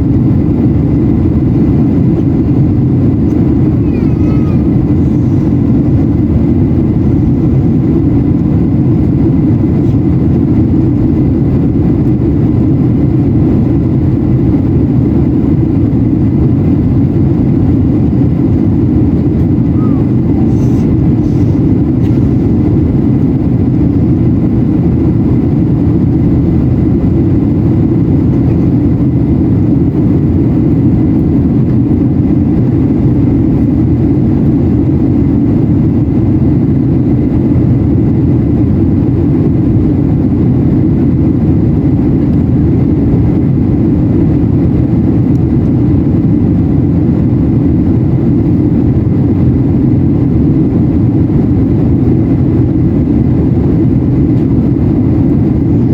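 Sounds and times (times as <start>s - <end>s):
airplane cabin rumble: 0.0s - 55.9s.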